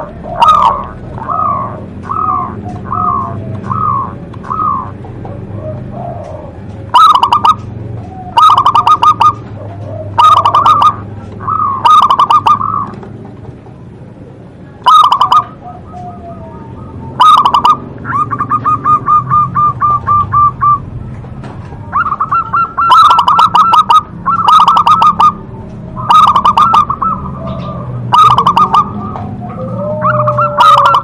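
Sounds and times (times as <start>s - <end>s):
dove cooing: 0.0s - 13.3s, 14.2s - 31.0s.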